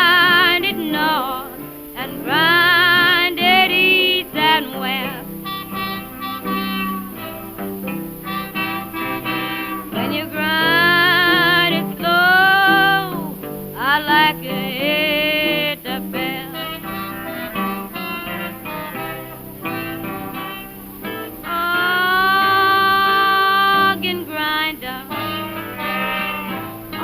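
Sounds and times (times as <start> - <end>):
instrumental accompaniment: 0.0 - 27.0
woman singing blues: 0.0 - 27.0.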